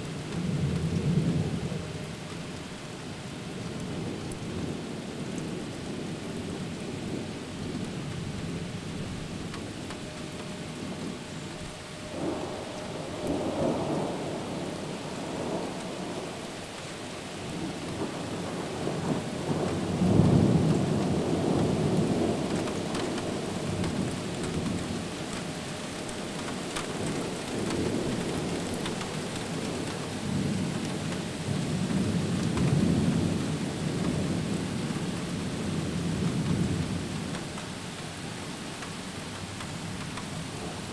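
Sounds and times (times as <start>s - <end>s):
steady rain: 0.0s - 40.9s
thunder rumbling: 0.3s - 37.8s.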